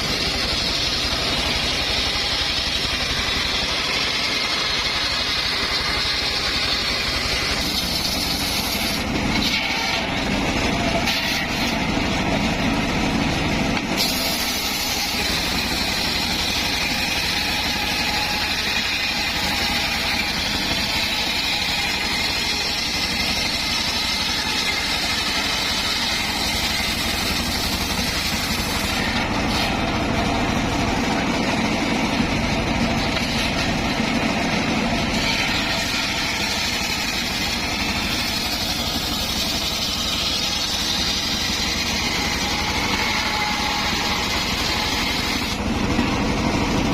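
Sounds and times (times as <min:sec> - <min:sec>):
circular wood saw running: 0:00.0 - 0:46.9.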